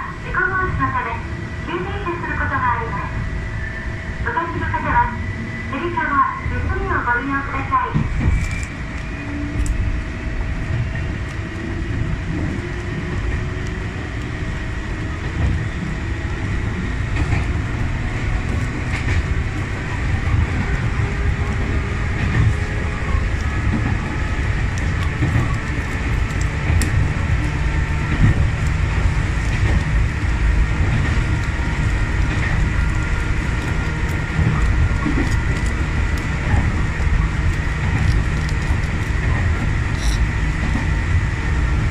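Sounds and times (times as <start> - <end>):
rumble of wheels on rail: 0.0 - 41.9.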